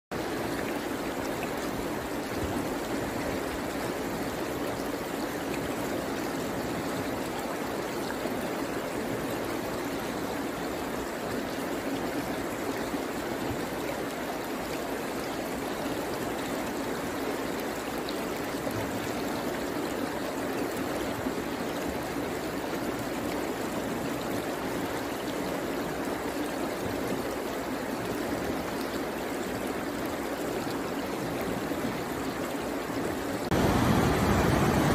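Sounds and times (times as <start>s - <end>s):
river rushing over rocks: 0.2s - 34.9s.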